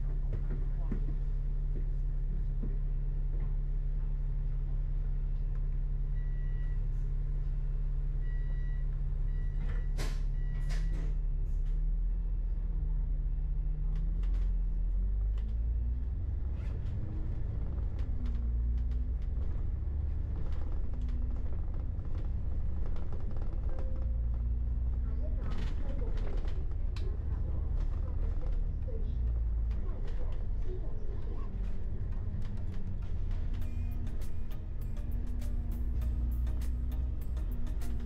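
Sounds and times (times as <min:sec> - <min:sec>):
large diesel engine running: 0:00.0 - 0:38.0.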